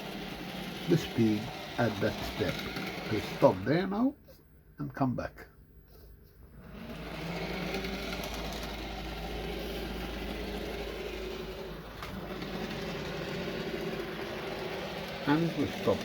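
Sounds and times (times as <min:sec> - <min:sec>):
model train motor humming: 0:00.0 - 0:04.0, 0:06.6 - 0:16.0.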